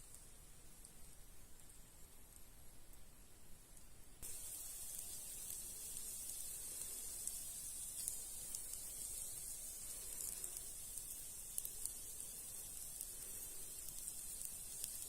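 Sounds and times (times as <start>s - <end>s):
small crackles: 0.0s - 3.0s, 3.7s - 15.0s
steady high hiss: 0.0s - 15.0s.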